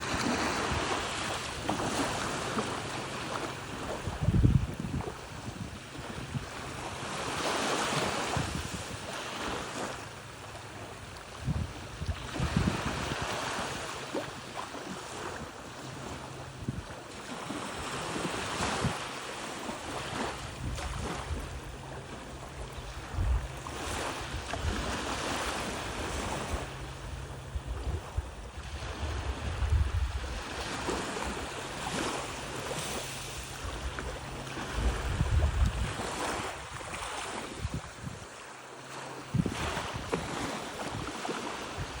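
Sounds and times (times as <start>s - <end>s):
wind on microphone: 0.0s - 10.0s, 10.7s - 38.4s, 39.2s - 42.0s
surf washing onto beach: 0.0s - 42.0s.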